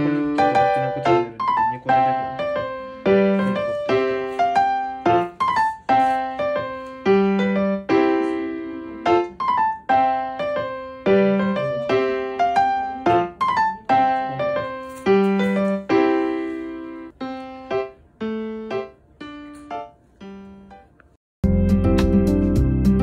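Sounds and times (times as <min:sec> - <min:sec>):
electric piano melody: 0:00.0 - 0:23.0.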